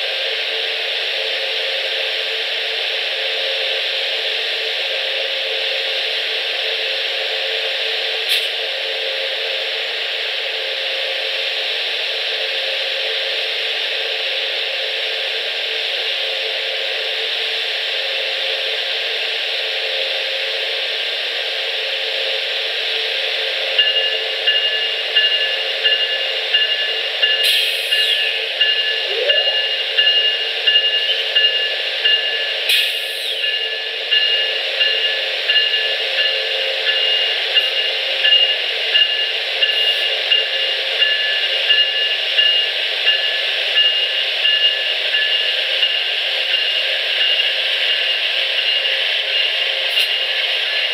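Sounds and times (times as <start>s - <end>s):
railroad warning bell ringing: 0.0s - 50.9s.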